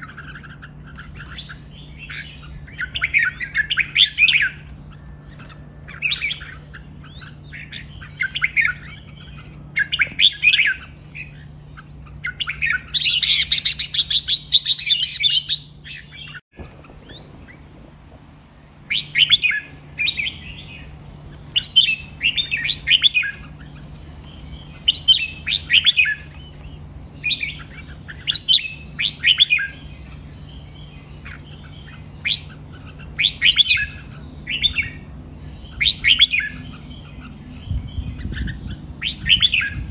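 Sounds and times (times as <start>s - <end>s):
bird singing warbled phrases: 0.0s - 39.9s
steady low hum: 0.0s - 39.9s.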